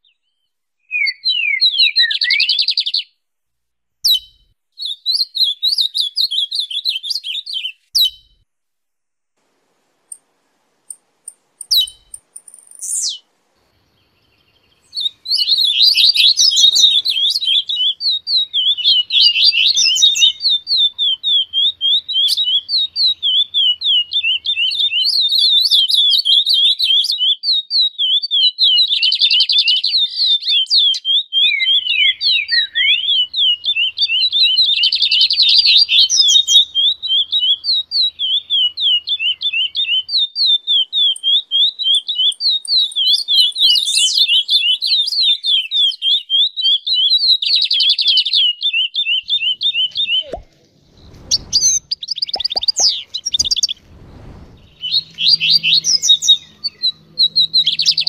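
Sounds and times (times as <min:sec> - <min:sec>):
songbirds chirping: 0:00.0 - 0:03.2, 0:04.0 - 0:08.5, 0:09.4 - 0:58.0.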